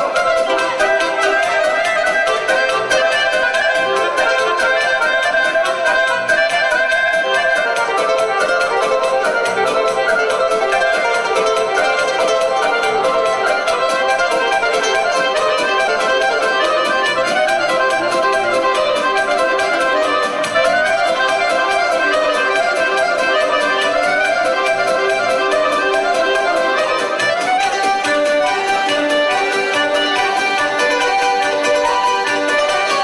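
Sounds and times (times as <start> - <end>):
accordion folk dance music: 0.0 - 33.0.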